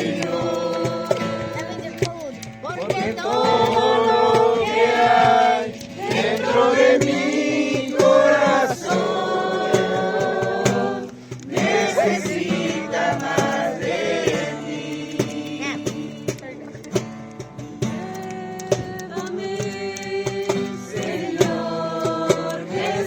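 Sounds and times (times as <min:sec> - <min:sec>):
acoustic guitar accompaniment: 0:00.0 - 0:23.0
group singing worship song: 0:00.0 - 0:23.0.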